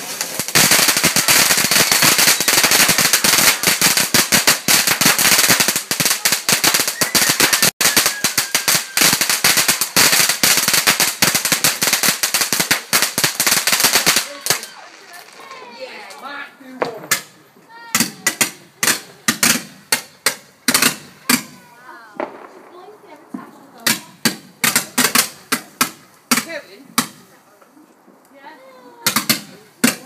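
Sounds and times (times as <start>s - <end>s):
firework crackling: 0.0s - 30.0s.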